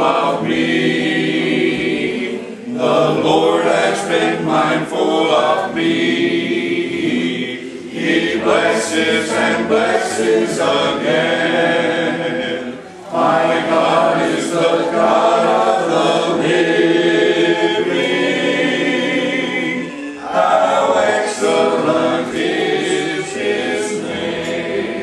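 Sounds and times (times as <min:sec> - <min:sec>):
group singing a hymn: 0:00.0 - 0:25.0.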